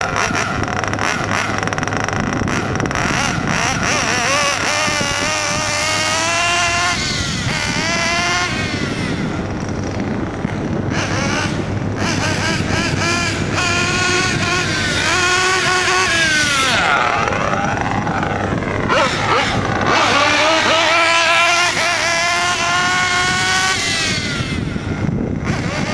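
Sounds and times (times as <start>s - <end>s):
model car engine revving: 0.0s - 25.9s.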